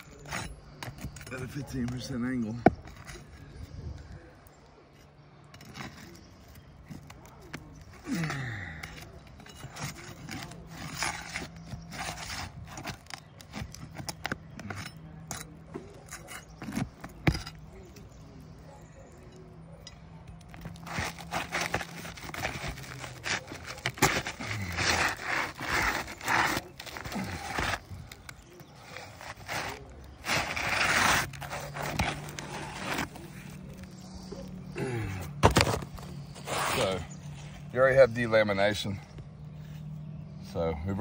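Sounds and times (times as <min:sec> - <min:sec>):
pry bar scraping roof shingles: 0:00.0 - 0:39.9.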